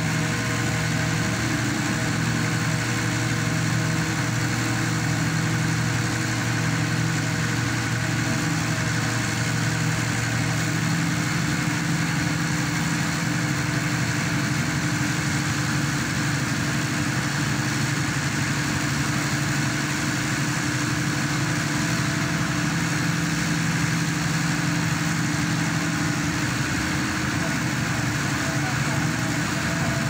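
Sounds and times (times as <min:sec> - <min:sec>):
pile driver engine droning: 0:00.0 - 0:30.0.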